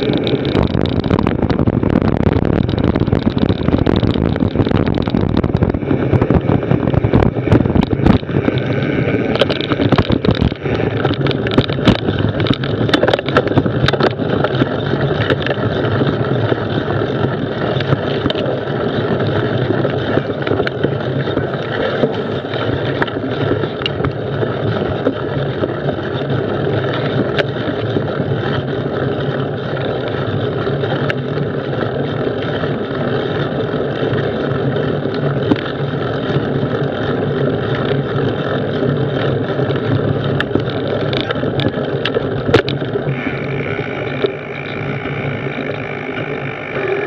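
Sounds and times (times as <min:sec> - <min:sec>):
bike clicks and knocks: 0:00.0 - 0:47.0
tyre and wind rumble: 0:00.0 - 0:47.0.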